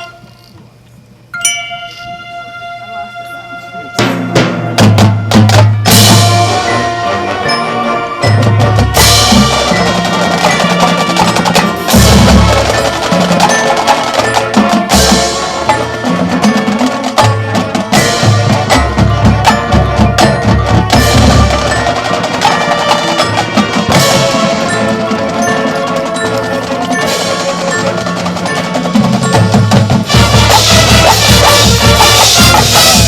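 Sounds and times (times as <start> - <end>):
marching band playing: 0.0 - 0.5, 1.8 - 33.0
drums: 0.0 - 33.0
bells and xylophone: 1.3 - 33.0.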